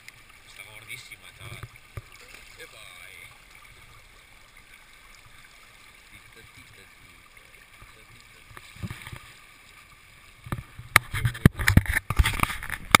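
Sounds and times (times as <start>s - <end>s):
faint river flow: 0.0s - 13.0s.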